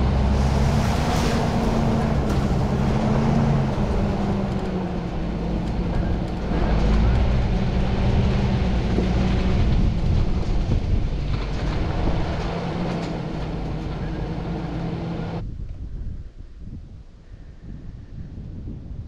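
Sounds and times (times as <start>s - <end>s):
car engine running: 0.0s - 15.4s
road noise: 0.0s - 15.4s
faint wind noise: 0.0s - 19.0s.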